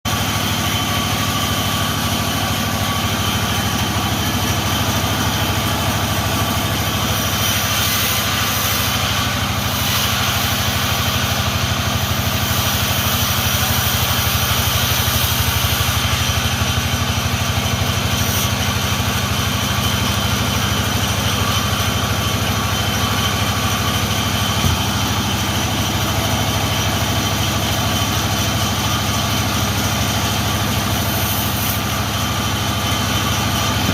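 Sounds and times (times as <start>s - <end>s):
sawing machine engine running: 0.1s - 33.9s.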